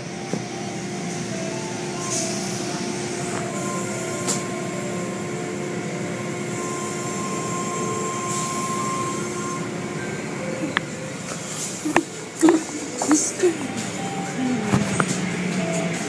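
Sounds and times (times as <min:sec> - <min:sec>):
car wash machinery hum: 0:00.0 - 0:16.0.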